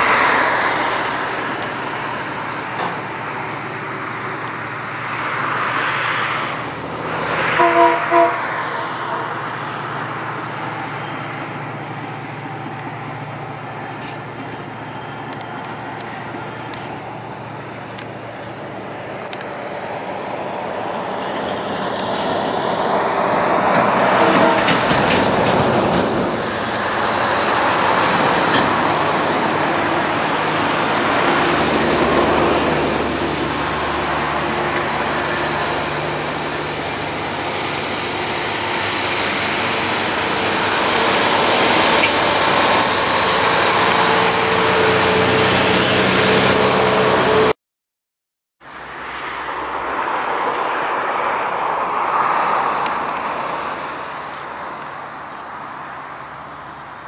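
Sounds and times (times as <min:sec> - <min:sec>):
diesel locomotive passing: 0:00.0 - 0:47.5, 0:48.7 - 0:56.9
road traffic: 0:00.0 - 0:47.6, 0:48.6 - 0:57.0.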